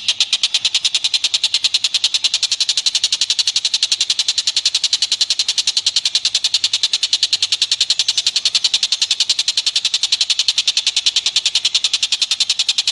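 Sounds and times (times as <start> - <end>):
rapid high chirps: 0.0 - 12.9.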